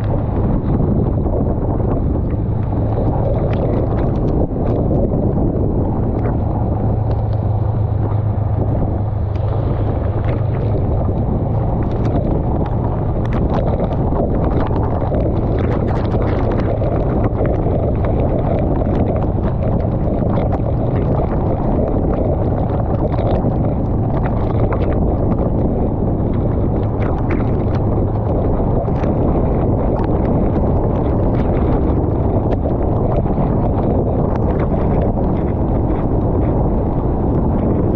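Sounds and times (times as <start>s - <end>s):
motorcycle engine cruising: 0.0s - 37.9s
raindrops ticking on camera: 0.0s - 37.9s
wind rushing: 0.0s - 37.9s.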